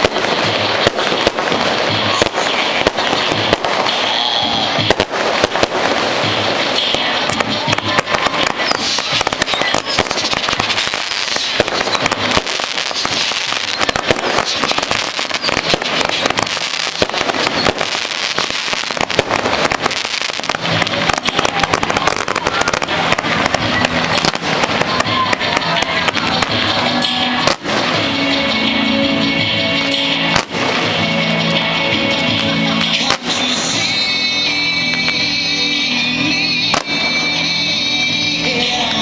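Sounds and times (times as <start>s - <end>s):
fireworks bangs and pops: 0.0s - 39.0s.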